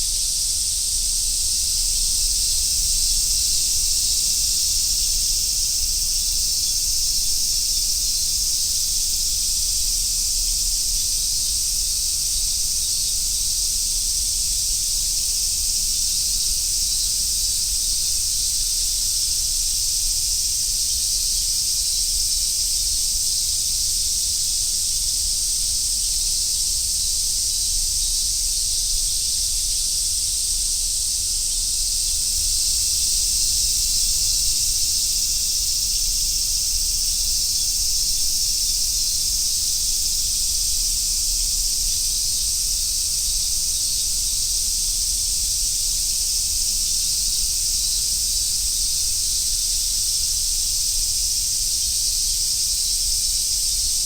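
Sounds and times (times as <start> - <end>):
cicadas chorus: 0.0 - 54.0.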